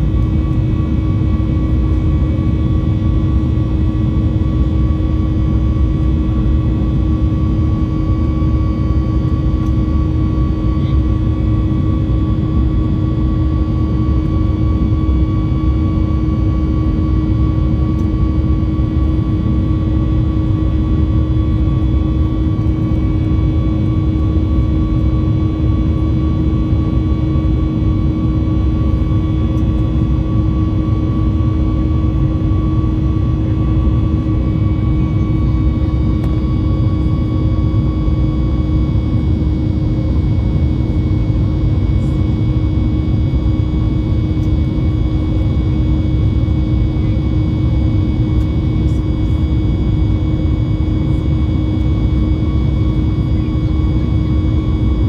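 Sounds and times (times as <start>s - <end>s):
deep aircraft cabin rumble: 0.0s - 55.0s.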